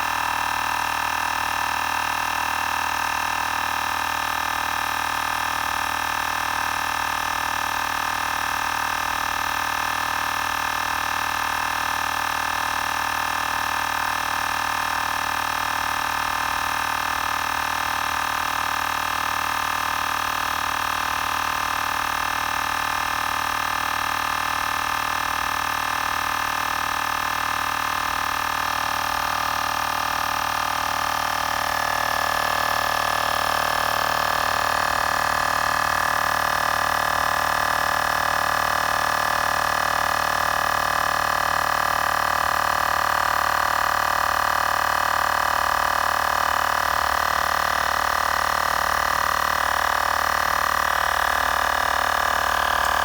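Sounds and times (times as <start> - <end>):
air compressor whining: 0.0 - 53.0.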